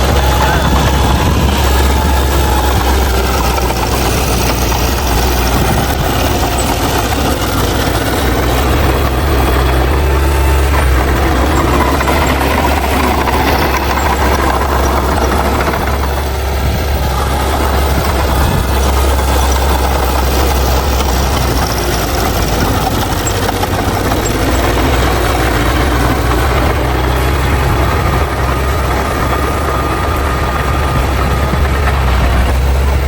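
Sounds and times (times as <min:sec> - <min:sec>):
bulldozer diesel engine droning: 0:00.0 - 0:33.0.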